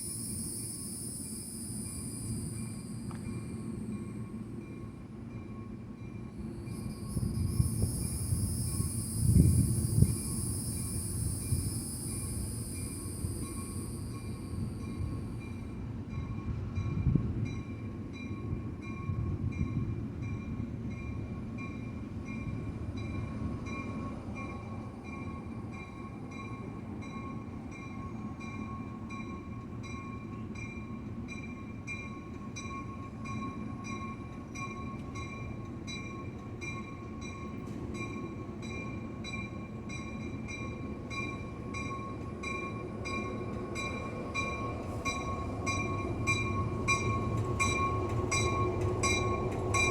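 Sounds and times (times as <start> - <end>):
train rumbling on track: 0.0 - 49.9.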